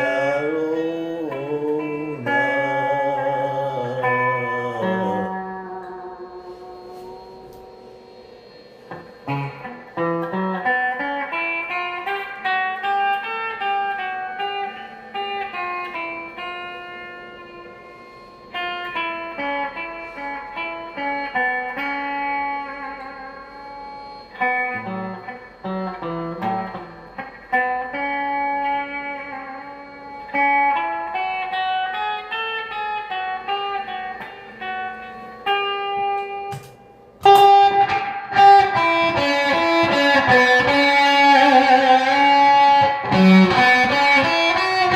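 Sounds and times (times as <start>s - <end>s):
guitar picking slow melody: 0.0s - 44.9s.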